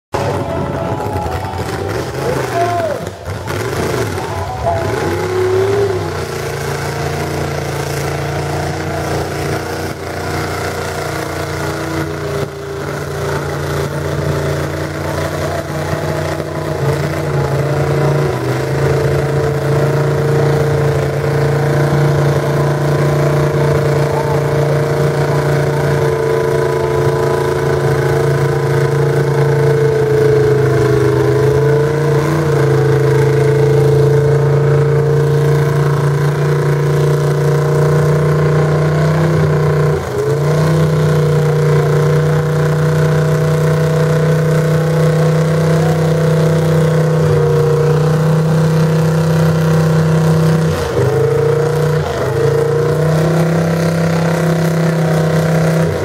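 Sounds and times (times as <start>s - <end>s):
truck engine revving high: 0.0s - 56.0s.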